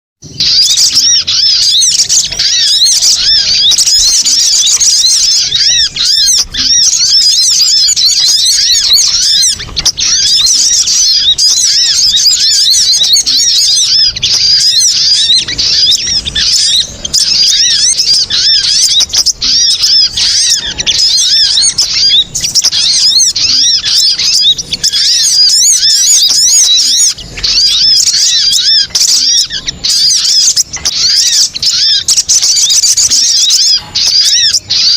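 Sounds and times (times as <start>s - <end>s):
high-pitched bird chattering: 0.2s - 34.9s.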